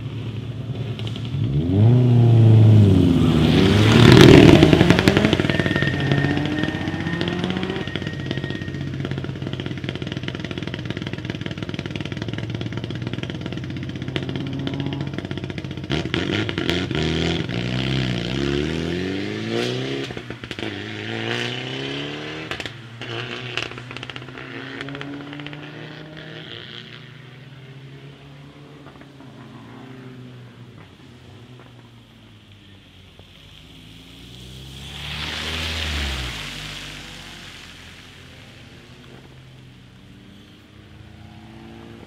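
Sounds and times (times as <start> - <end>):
rally car engine revving: 0.0 - 32.8, 33.8 - 42.0
engine crackles: 0.0 - 42.0.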